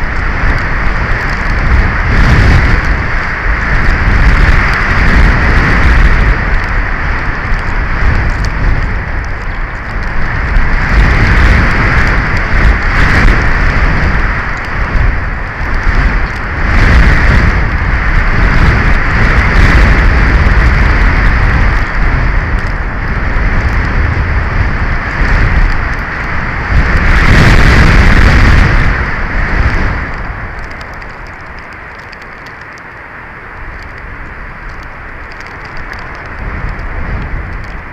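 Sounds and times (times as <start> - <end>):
strong wind on microphone: 0.0 - 37.9.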